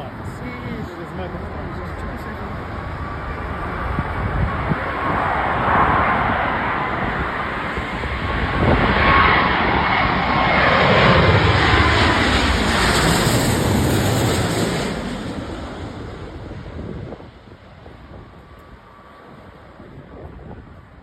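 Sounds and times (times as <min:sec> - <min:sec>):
jet engines passing close: 0:00.0 - 0:21.0.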